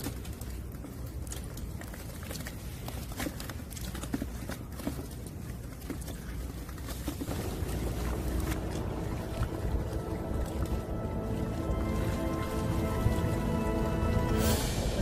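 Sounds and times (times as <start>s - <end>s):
plastic tubs being handled: 0.0s - 14.4s
boots stepping on wet stones: 0.0s - 14.7s
low steady rumble: 0.0s - 15.0s.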